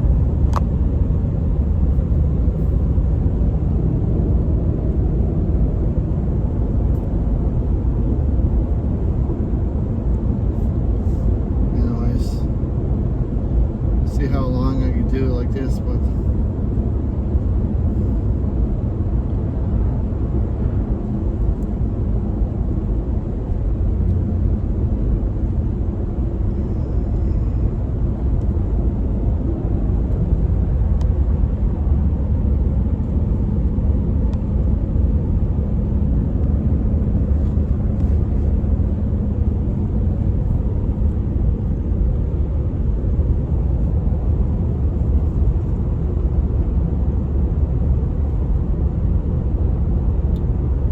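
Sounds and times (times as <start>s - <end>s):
truck engine and road noise: 0.0s - 50.9s.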